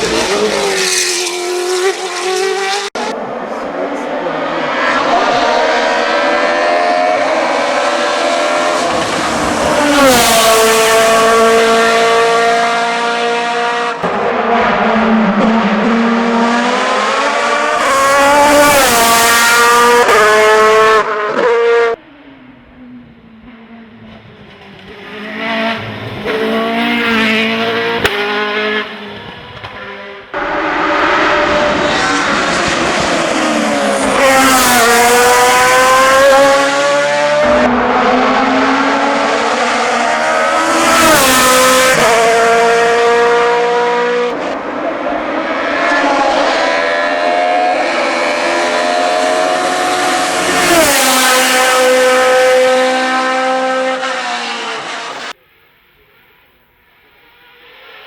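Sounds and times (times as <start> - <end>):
racing car engines at full throttle: 0.0 - 55.4.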